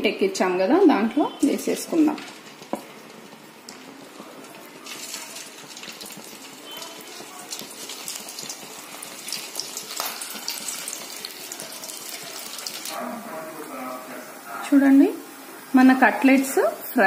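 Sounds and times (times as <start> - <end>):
hot oil sizzling and crackling: 0.4 - 17.0.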